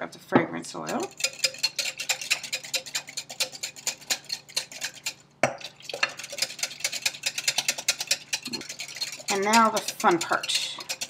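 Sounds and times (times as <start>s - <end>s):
whisk clicking against glass bowl: 0.9s - 11.0s.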